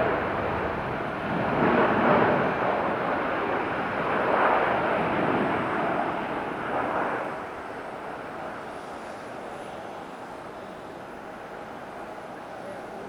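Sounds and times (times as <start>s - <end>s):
jet airliner engines passing: 0.0s - 13.0s.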